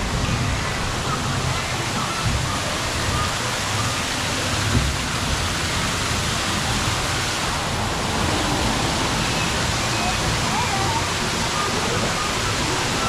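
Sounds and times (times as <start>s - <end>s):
rushing falling water: 0.0s - 13.0s.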